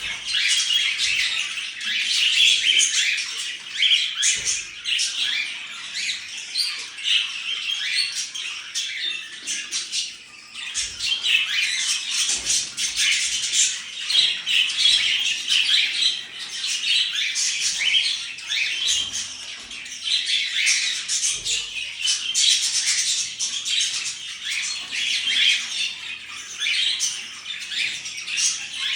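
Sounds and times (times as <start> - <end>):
canary chirping and singing: 0.0 - 28.9.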